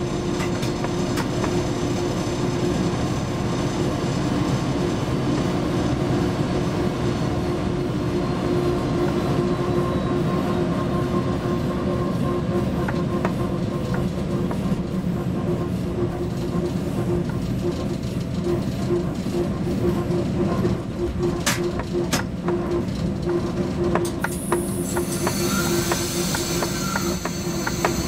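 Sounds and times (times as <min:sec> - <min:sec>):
electric locomotive rumble and hum: 0:00.0 - 0:28.0.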